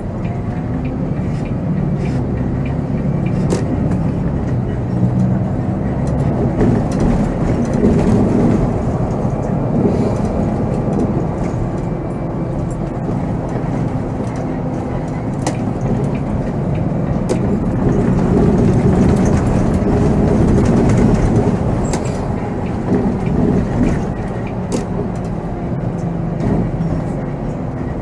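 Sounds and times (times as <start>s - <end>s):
diesel engine droning: 0.0s - 28.0s
coach body rattles and clicks: 0.2s - 28.0s.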